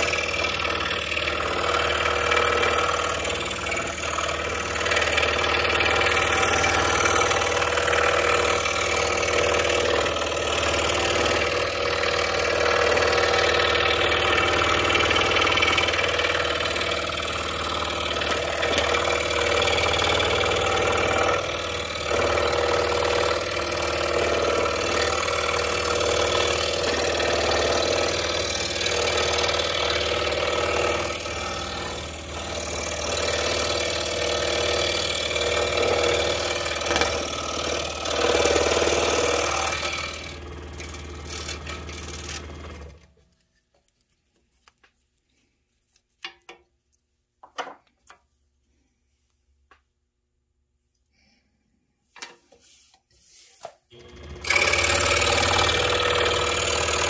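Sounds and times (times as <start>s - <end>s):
scroll saw cutting wood: 0.0s - 43.3s, 53.5s - 57.0s.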